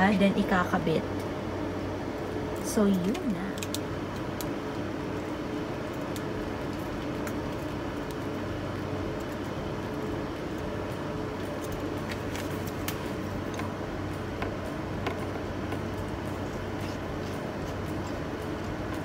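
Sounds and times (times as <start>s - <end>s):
workshop equipment humming: 0.0s - 19.0s.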